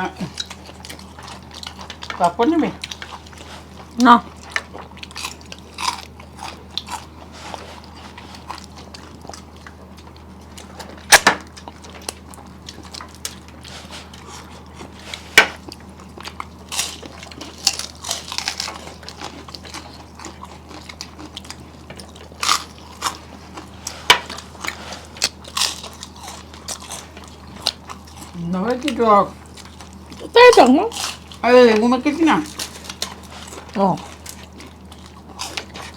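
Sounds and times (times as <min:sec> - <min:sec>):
chewing and crunching: 0:00.0 - 0:35.9
steady low hum: 0:00.0 - 0:35.9.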